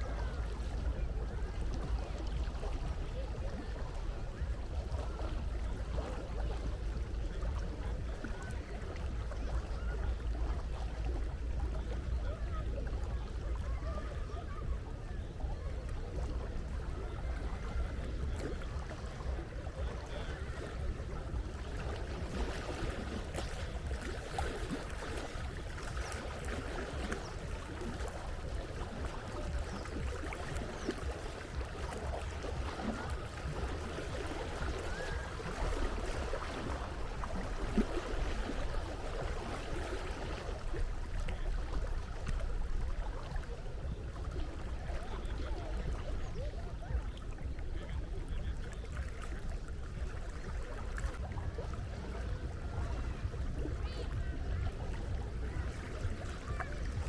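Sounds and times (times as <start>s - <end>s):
sea water lapping: 0.0s - 57.0s.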